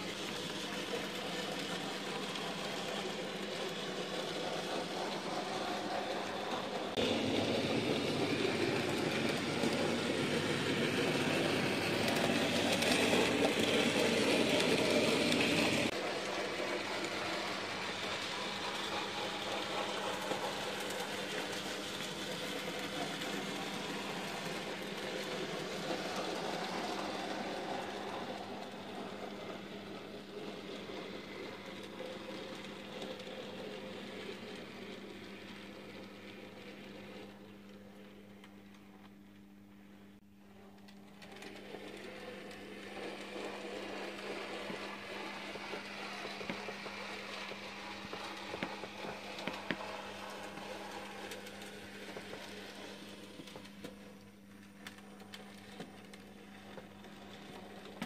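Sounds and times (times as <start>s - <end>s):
model trains running on track: 0.0s - 38.5s, 41.2s - 54.2s, 54.8s - 58.0s.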